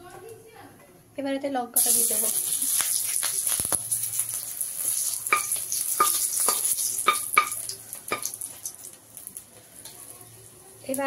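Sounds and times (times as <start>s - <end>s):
chillies sizzling in hot oil: 1.8s - 11.0s.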